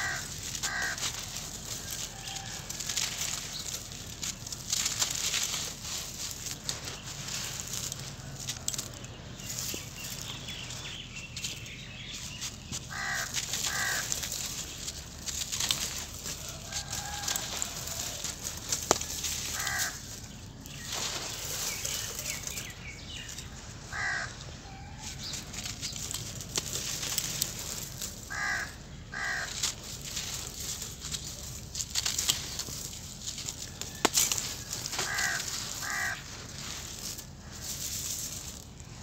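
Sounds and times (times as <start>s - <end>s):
cement lumps crunching in hands: 0.0s - 24.1s, 25.2s - 39.0s
bird calling: 0.0s - 38.6s
grit pattering onto ground: 0.0s - 39.0s.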